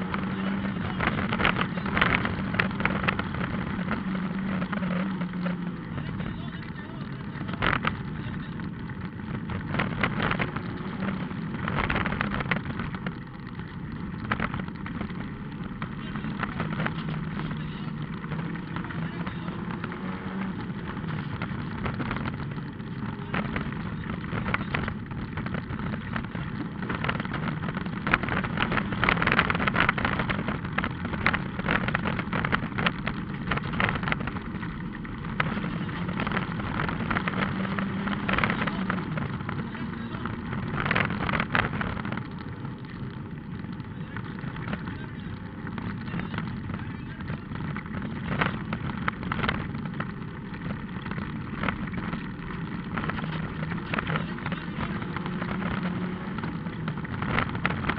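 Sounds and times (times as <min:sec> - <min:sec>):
gravel striking car: 0:00.0 - 0:57.9
rally car engine revving: 0:00.0 - 0:57.9.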